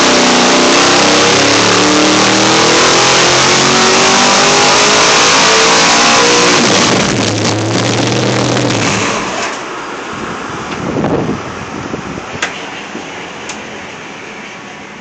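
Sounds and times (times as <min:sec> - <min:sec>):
car engine revving on a dyno: 0:00.0 - 0:14.9.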